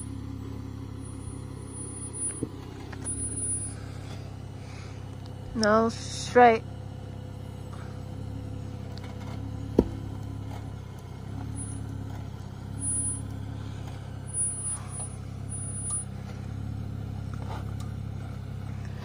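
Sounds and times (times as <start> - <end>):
vehicle engine running low revs: 0.0 - 19.0.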